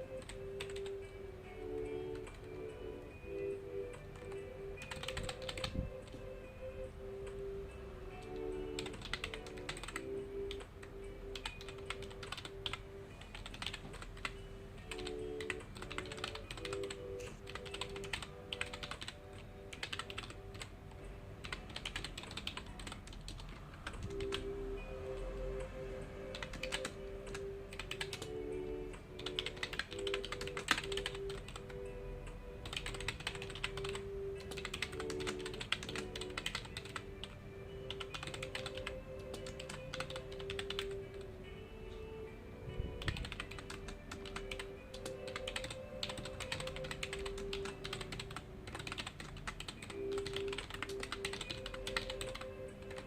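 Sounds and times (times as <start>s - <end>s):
keyboard typing: 0.0s - 7.5s, 8.1s - 41.3s, 42.9s - 53.0s
soft background music: 0.0s - 53.0s.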